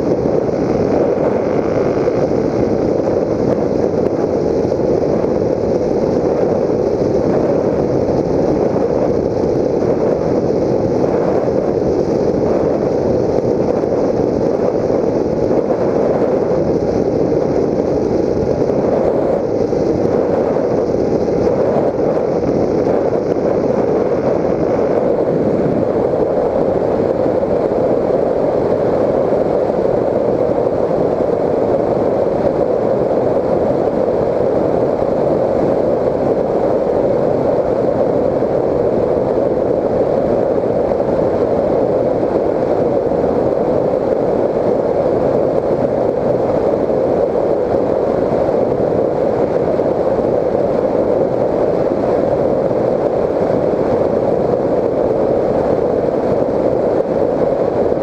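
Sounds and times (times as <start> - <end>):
rush of airflow: 0.0 - 58.0.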